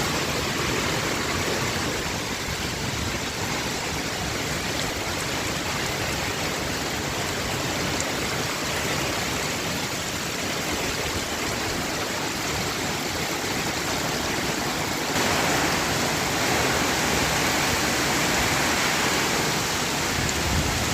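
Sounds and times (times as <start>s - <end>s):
heavy rain in strong wind: 0.0s - 20.9s.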